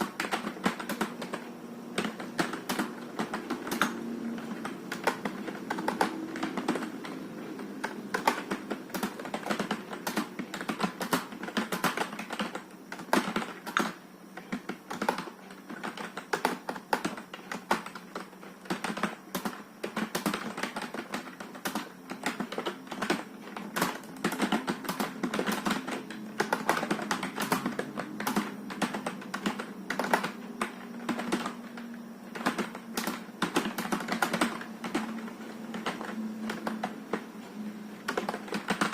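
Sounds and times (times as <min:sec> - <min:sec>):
typing on computer keyboard: 0:00.0 - 0:37.4, 0:38.0 - 0:38.9.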